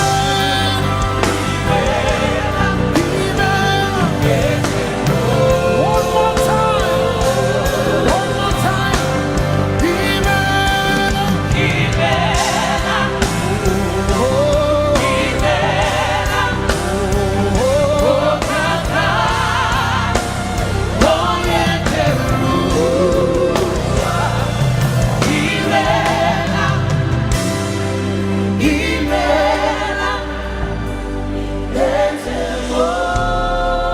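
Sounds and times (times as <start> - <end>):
band with bass and drums: 0.0 - 33.9
vocalist and choir singing: 0.0 - 33.9.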